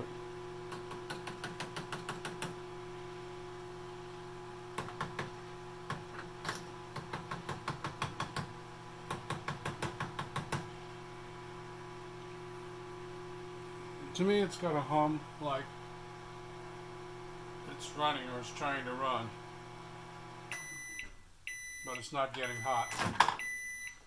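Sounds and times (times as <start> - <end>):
microwave humming: 0.0 - 24.0.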